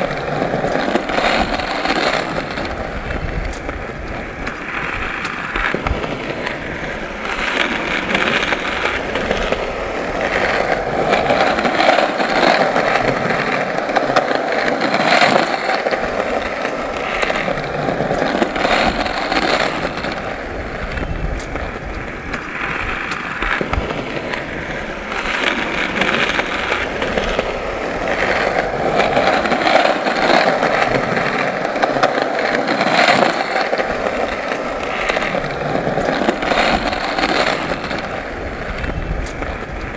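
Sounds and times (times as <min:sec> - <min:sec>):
skateboard wheels rolling: 0:00.0 - 0:39.9.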